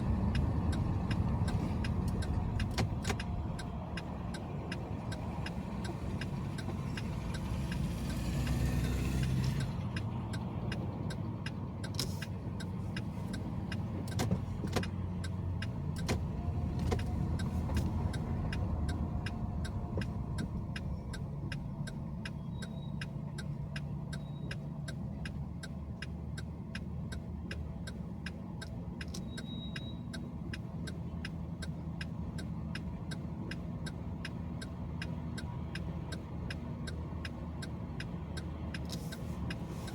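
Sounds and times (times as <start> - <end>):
car engine driving: 0.0 - 39.9
faint regular ticking: 0.0 - 39.9
road rumble: 0.0 - 39.9.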